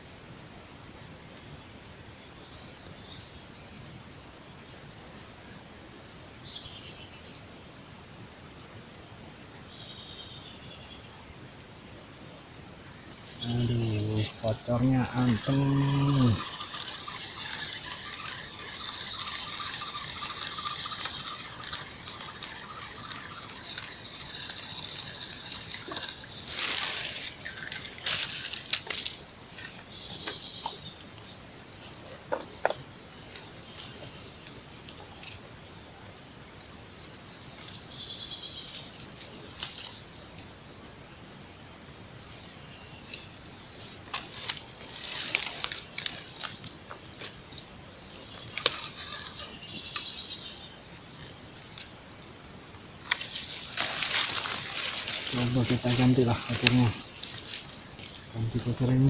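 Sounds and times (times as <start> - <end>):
buzzy insect calls: 0.0 - 59.0
insect high drone: 0.0 - 59.0.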